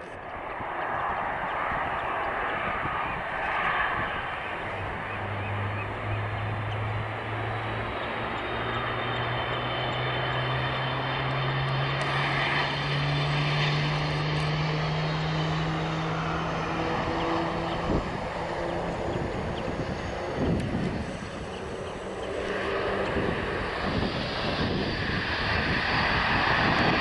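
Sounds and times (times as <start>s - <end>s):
jet engines droning: 0.0s - 27.0s.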